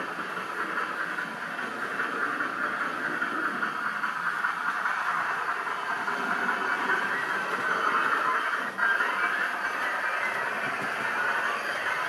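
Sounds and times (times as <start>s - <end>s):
model locomotive hissing rumble: 0.0s - 12.0s.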